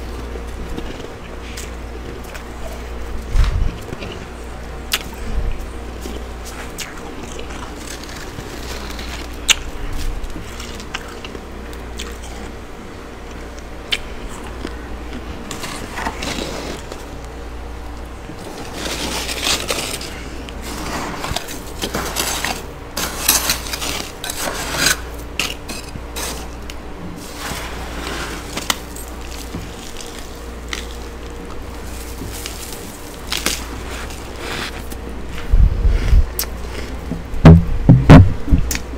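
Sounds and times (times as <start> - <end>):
frost crunching and crackling: 0.0 - 37.6
freezer low hum: 0.0 - 38.9.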